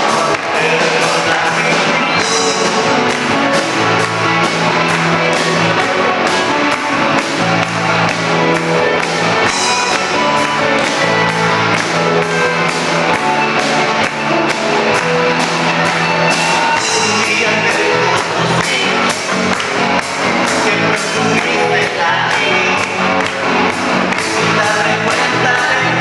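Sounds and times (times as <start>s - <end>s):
bass notes: 0.0s - 26.0s
drums: 0.0s - 26.0s
guitars: 0.0s - 26.0s.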